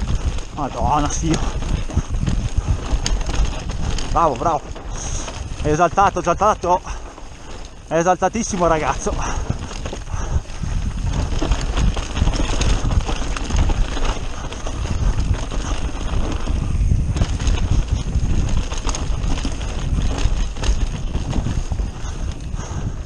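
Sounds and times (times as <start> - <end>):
bike rattling and knocking: 0.0 - 23.0
wind rumble on microphone: 0.0 - 23.0.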